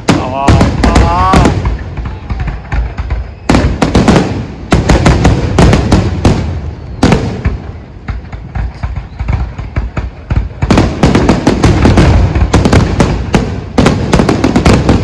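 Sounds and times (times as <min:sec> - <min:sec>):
fireworks loud bangs: 0:00.0 - 0:15.0.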